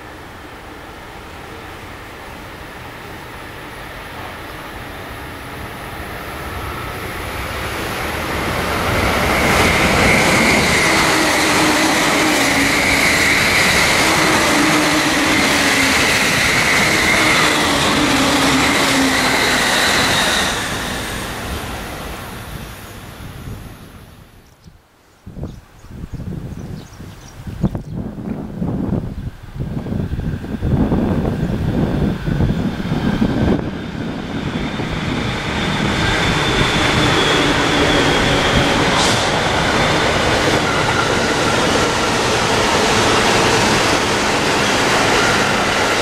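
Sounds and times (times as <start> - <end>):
electric train passing: 0.0 - 24.4, 28.0 - 46.0
high whine of train wheels: 0.0 - 24.6, 27.8 - 46.0.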